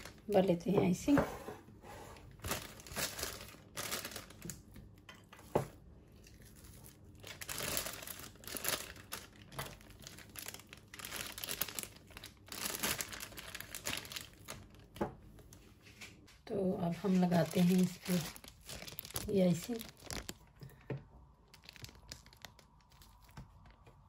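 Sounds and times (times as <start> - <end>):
plastic piping bag crinkling: 0.0 - 0.8, 2.3 - 5.0, 6.1 - 15.6, 16.8 - 24.0.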